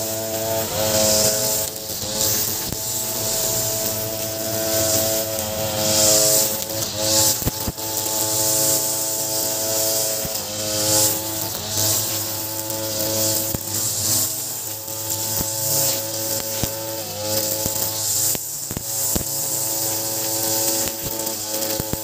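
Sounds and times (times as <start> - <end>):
brush cutter engine running: 0.0 - 22.0
sharp ticks: 0.0 - 22.0
trimmer line hissing through grass: 0.0 - 22.0.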